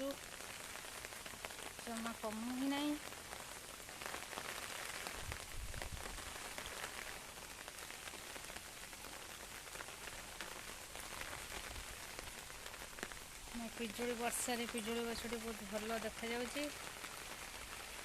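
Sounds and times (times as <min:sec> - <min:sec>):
heavy rain hissing: 0:00.0 - 0:18.0
raindrops ticking on surfaces: 0:00.0 - 0:18.0.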